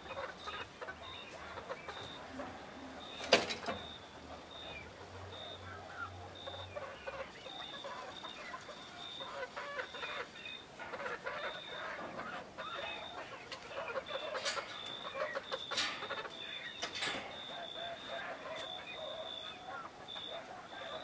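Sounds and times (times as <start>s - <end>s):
chickens clucking softly: 0.0s - 21.0s.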